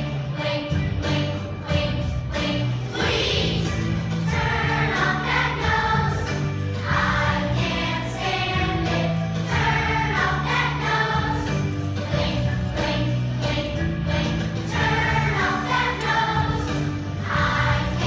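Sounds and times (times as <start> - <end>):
children's choir singing: 0.0 - 18.0
musical accompaniment with bass line: 0.0 - 18.0.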